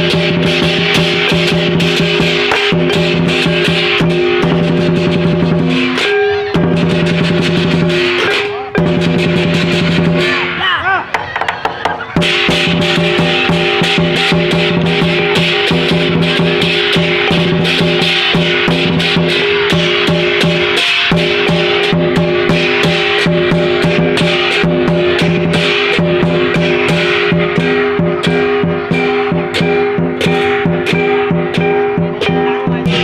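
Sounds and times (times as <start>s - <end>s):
drum and cymbal strikes: 0.0s - 33.0s.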